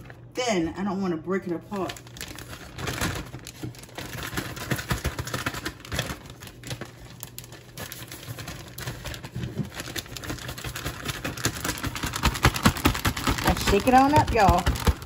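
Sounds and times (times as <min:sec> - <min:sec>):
plastic bag crinkling: 0:00.0 - 0:00.4, 0:01.4 - 0:15.0.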